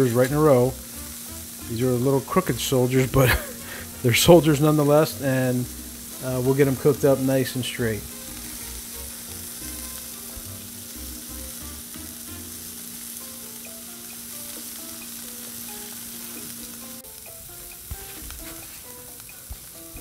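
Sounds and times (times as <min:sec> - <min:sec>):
vegetables sizzling on a griddle: 0:00.0 - 0:20.0.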